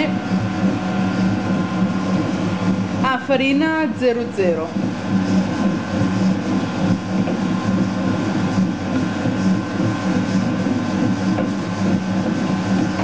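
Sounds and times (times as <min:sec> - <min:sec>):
dough churning: 0:00.0 - 0:13.0
mixer motor humming: 0:00.0 - 0:13.0.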